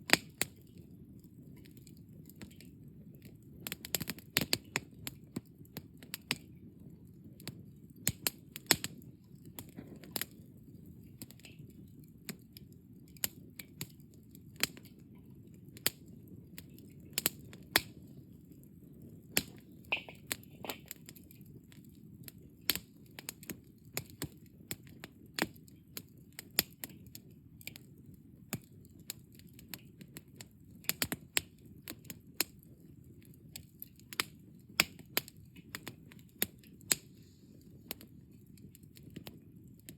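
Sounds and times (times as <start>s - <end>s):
embers crackling and popping: 0.0s - 39.9s
low rustle of flame: 0.0s - 39.9s.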